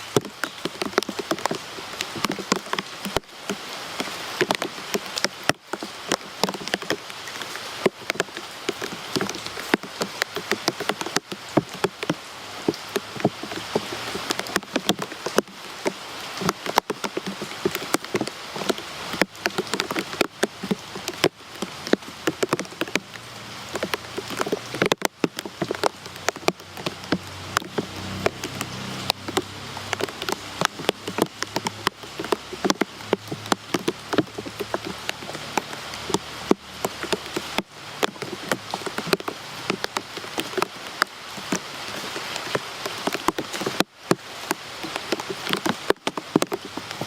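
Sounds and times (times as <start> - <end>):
rain drops clicking on surface: 0.0 - 47.0
rain hiss: 0.0 - 47.0.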